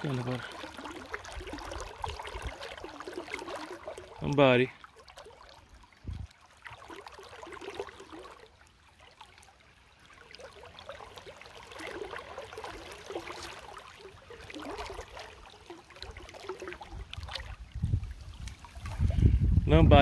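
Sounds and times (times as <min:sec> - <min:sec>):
river water trickling: 0:00.0 - 0:20.0.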